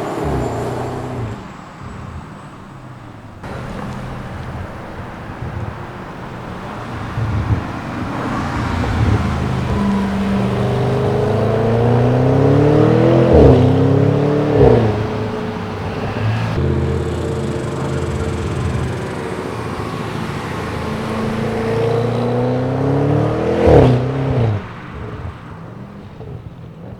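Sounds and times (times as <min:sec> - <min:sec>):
car engine accelerating hard: 0:00.0 - 0:26.9
exhaust burst on gear shift: 0:00.0 - 0:26.9.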